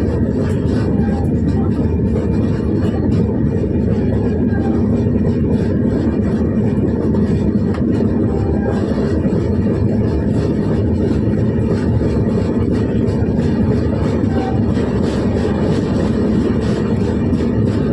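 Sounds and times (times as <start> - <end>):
moving train rumbling: 0.0 - 17.9.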